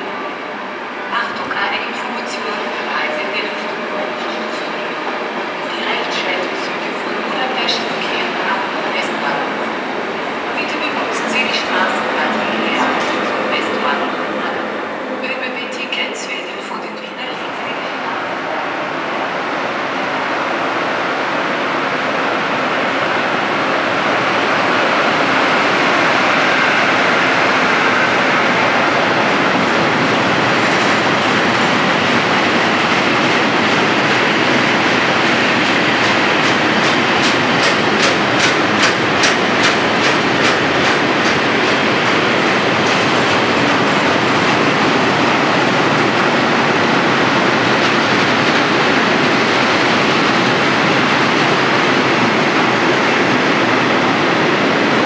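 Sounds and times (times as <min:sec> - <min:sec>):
train wheel and rail noise: 0:00.0 - 0:55.0.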